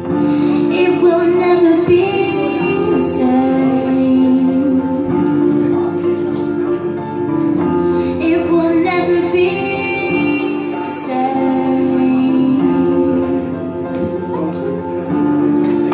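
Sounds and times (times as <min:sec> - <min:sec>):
sustained instrumental accompaniment: 0:00.0 - 0:15.9
woman singing: 0:00.2 - 0:05.9, 0:08.1 - 0:15.1.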